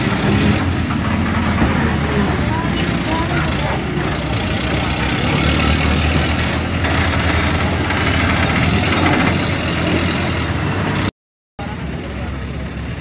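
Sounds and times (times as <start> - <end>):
heavy diesel engines humming: 0.0 - 13.0.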